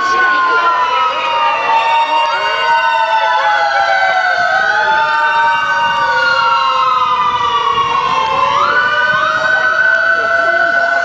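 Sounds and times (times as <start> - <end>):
fire sirens wailing: 0.0 - 11.0.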